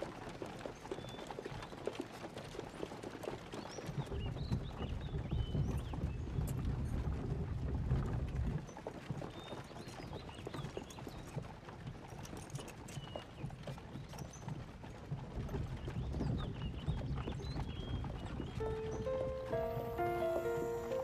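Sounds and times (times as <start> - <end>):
horse hooves clopping on dirt: 0.0 - 21.0.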